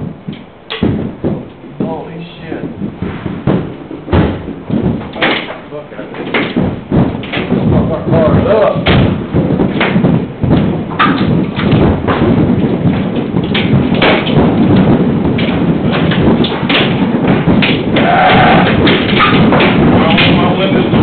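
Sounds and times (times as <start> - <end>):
hail clattering on roof: 0.0 - 21.0.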